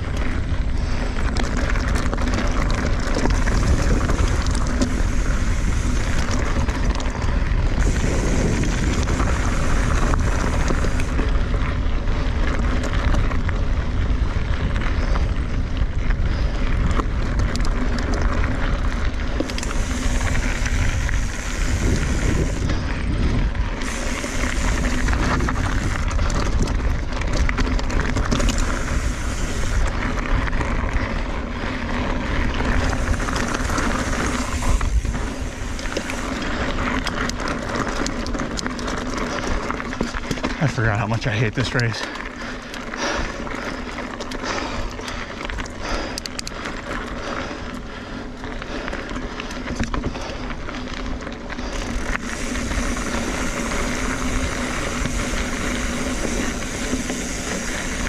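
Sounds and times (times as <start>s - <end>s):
wind buffeting microphone: 0.0s - 48.9s, 49.5s - 58.0s
bike chain rattling: 0.0s - 58.0s
tyres crunching over gravel: 0.0s - 58.0s.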